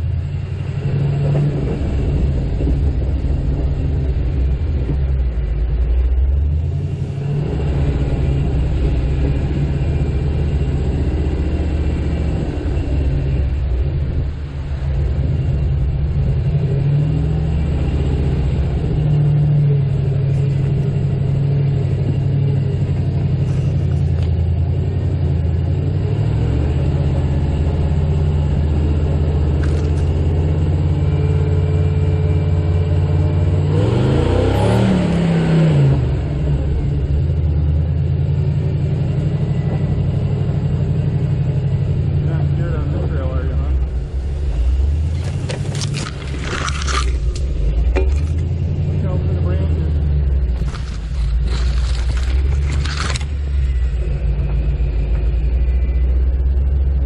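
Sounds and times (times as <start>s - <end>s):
engine running at low revs: 0.0s - 57.0s.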